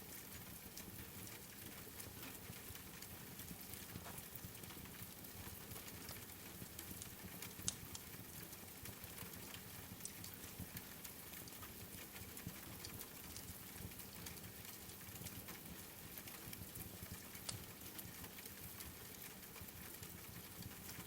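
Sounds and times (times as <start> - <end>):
steady rain: 0.0 - 21.0
wood fire crackling: 2.0 - 21.0.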